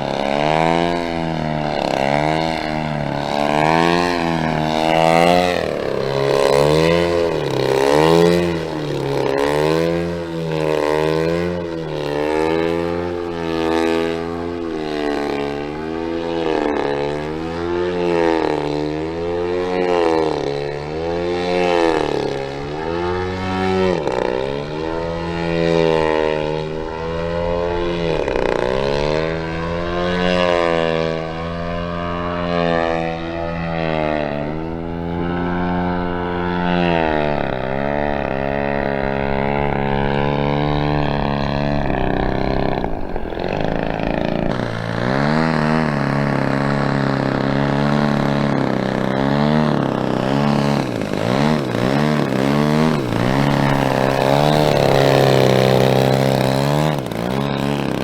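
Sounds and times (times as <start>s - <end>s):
model plane engine drone in flight: 0.0s - 58.0s.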